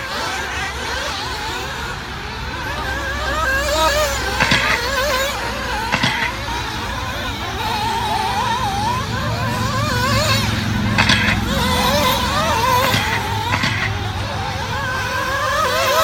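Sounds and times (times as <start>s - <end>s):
model car engines whining: 0.0s - 16.0s.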